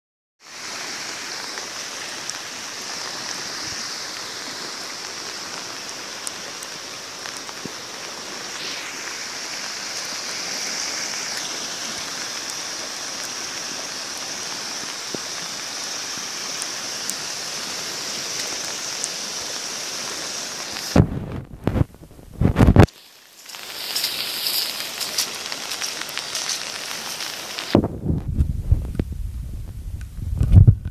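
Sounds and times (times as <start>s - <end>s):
heavy rain and floodwater rushing: 0.4s - 27.8s.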